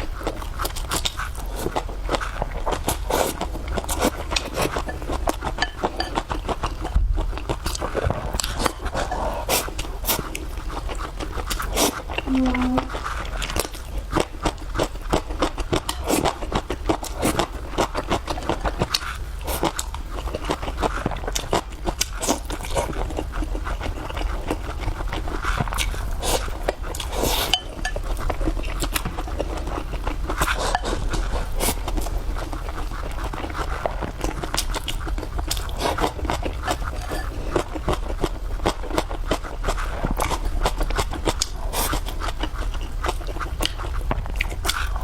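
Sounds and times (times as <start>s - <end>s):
person chewing and smacking: 0.2s - 45.0s.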